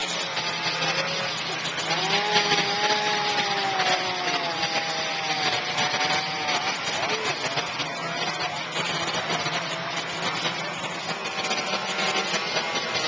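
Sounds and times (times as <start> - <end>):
chainsaws running: 0.0 - 13.0.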